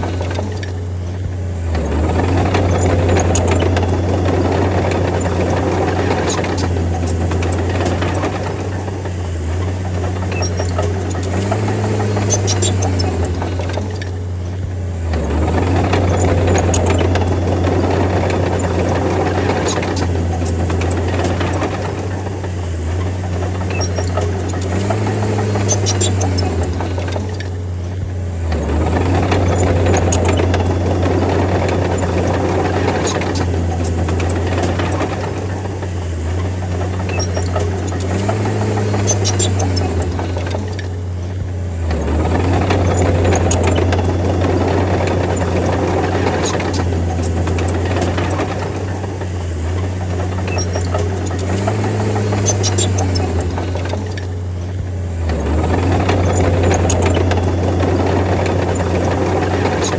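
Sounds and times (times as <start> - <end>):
sharp clicks: 0.0 - 49.3
bulldozer diesel engine under load: 0.0 - 59.9.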